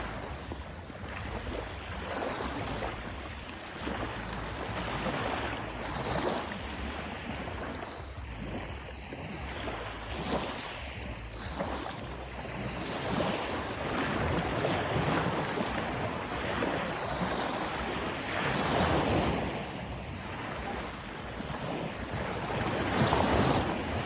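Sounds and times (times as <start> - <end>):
sea waves washing in: 0.0 - 24.0.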